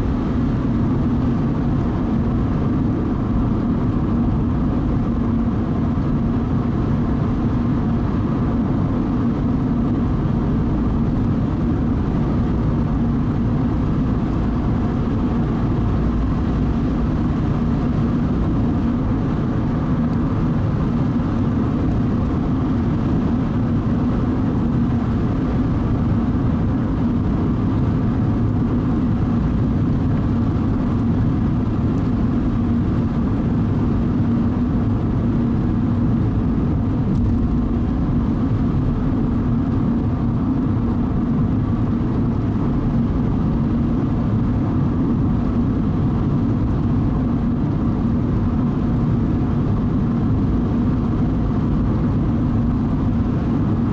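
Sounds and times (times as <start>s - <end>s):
car engine and road noise: 0.0s - 53.9s
steady low hum: 0.0s - 53.9s.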